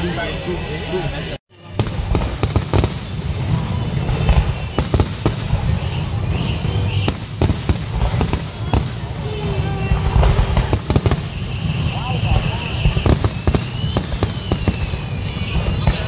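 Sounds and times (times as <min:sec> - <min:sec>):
continuous low rumble: 0:00.0 - 0:16.0
fireworks bursting with sharp bangs: 0:01.6 - 0:16.0.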